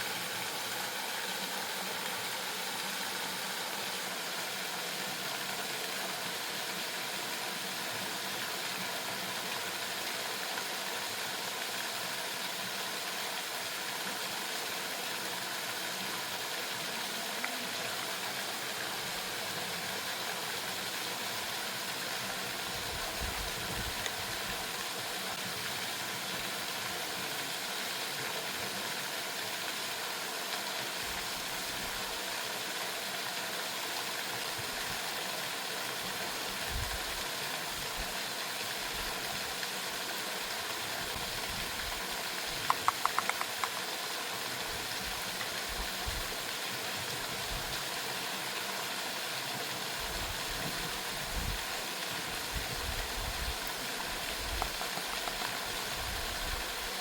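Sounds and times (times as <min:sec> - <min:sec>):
waterfall rushing hiss: 0:00.0 - 0:57.0.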